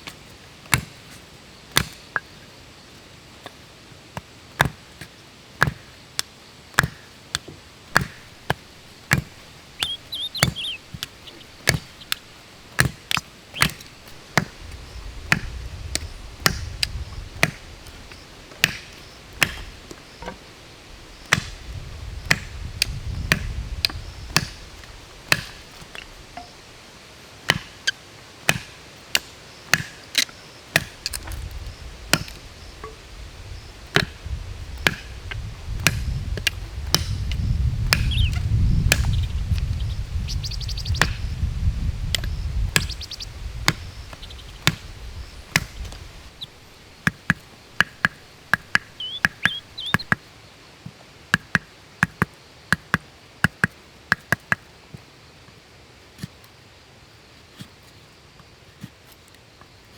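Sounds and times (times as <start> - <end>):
blade chopping wood: 0.7 - 2.3, 4.2 - 20.5, 21.1 - 26.6, 27.4 - 41.4, 42.0 - 50.2, 51.4 - 54.6.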